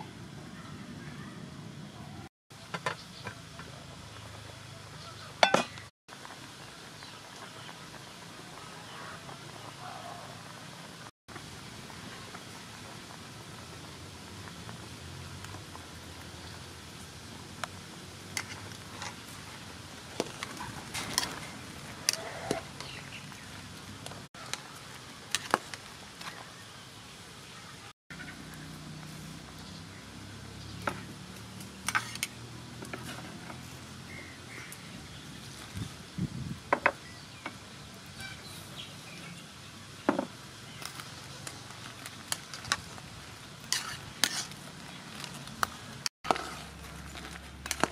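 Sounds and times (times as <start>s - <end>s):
soup bubbling at a rolling boil: 2.5s - 47.9s.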